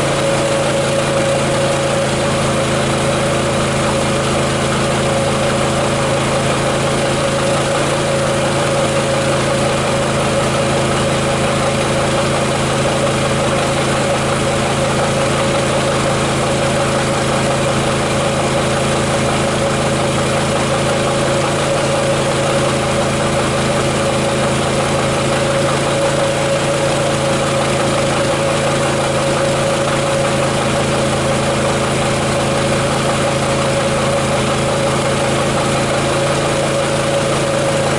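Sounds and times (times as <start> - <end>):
generator engine humming: 0.0 - 37.9.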